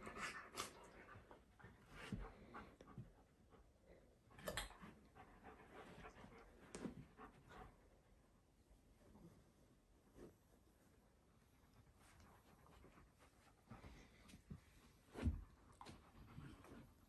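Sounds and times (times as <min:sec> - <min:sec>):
dog panting faintly: 0:00.0 - 0:08.5, 0:11.5 - 0:17.0.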